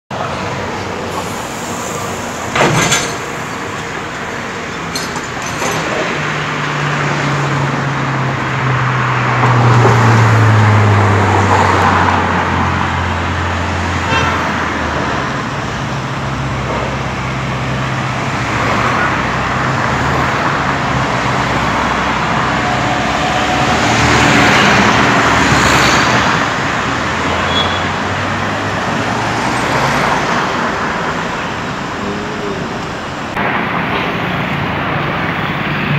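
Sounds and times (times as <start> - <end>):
city traffic noise: 0.1 - 35.9.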